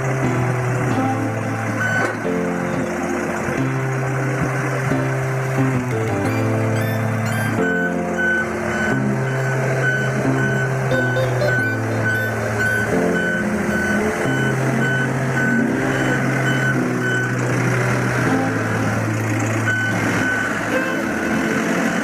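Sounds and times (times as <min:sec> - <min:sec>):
background music with low notes: 0:00.0 - 0:22.0
backhoe engine running: 0:00.0 - 0:22.0
reversing alarm beeping: 0:00.9 - 0:02.9, 0:06.1 - 0:22.0.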